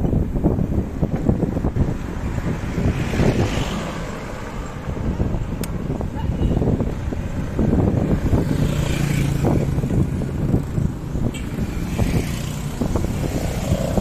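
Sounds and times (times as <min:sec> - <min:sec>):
road and wind rumble: 0:00.0 - 0:14.0
vehicle engine humming: 0:00.0 - 0:14.0.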